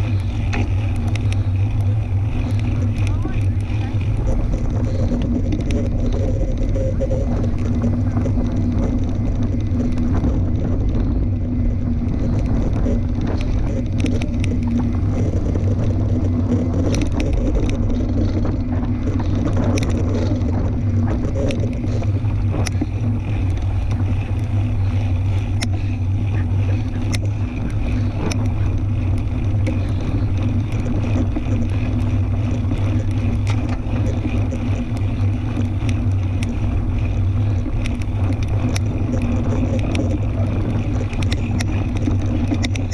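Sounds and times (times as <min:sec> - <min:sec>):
bicycle clicks and ticks: 0:00.0 - 0:42.9
bicycle tires droning hum: 0:00.0 - 0:42.9.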